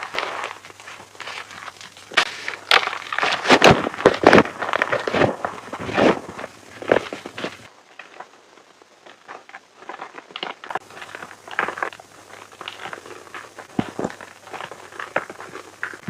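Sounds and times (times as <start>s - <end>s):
chalk being crushed: 0.0s - 7.7s, 9.3s - 16.0s.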